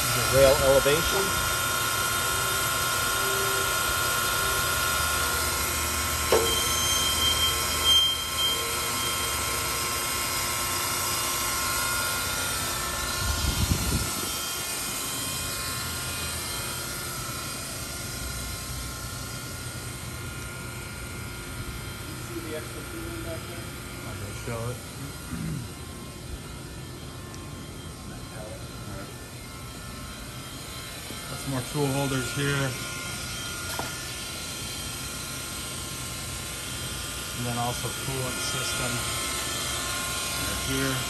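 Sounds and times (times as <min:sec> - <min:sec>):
machine drone with whine: 0:00.0 - 0:41.0.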